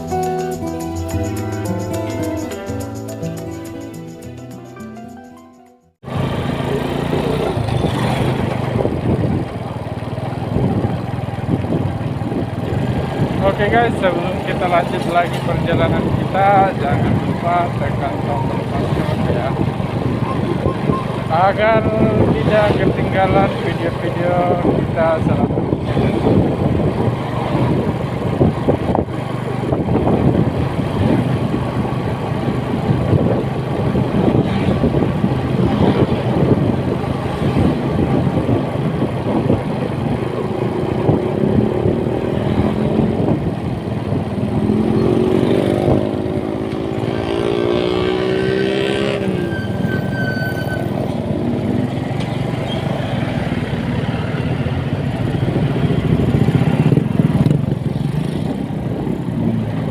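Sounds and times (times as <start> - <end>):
motorcycle riding: 6.0 - 59.9
wind rushing over microphone: 7.5 - 49.9, 50.9 - 59.9.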